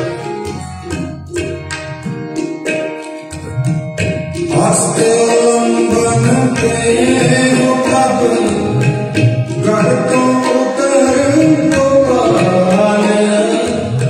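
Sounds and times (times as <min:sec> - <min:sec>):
harmonium melody: 0:00.0 - 0:14.0
tabla rhythm: 0:00.0 - 0:14.0.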